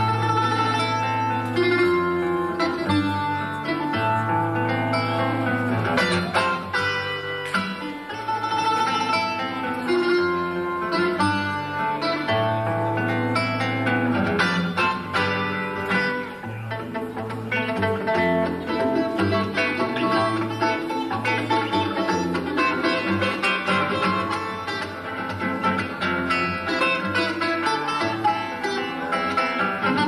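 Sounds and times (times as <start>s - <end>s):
classical guitar: 0.0s - 30.0s
small guitar-like instrument: 0.0s - 30.0s.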